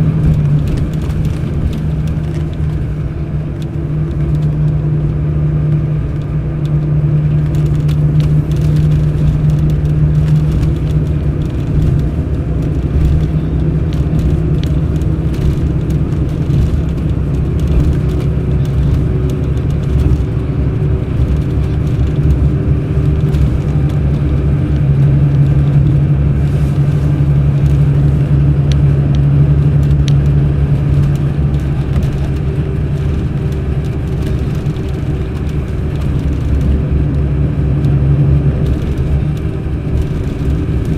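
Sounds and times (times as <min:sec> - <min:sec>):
coach diesel engine droning: 0:00.0 - 0:40.9.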